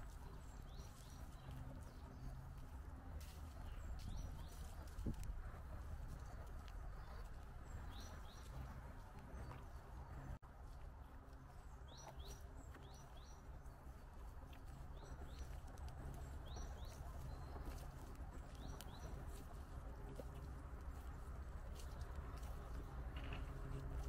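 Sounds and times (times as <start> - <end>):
songbird chirping: 0.0 - 24.0
steady low rumble: 0.0 - 24.0.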